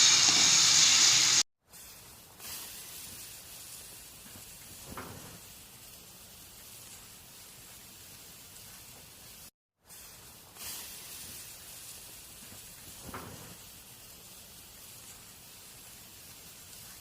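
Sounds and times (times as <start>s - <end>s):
food sizzling on a hot griddle: 0.0s - 17.0s.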